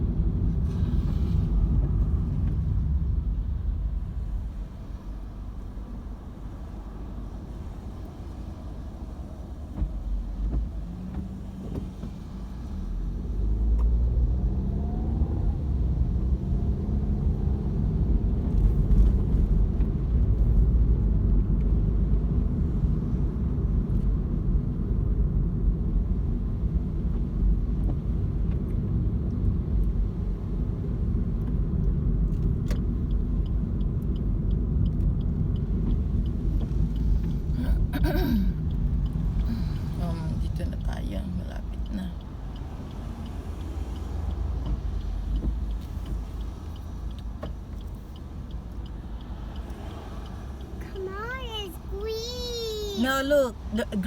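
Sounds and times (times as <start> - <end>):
car engine accelerating: 0.0 - 22.7, 26.6 - 54.0
road rumble on wet road: 0.0 - 54.0.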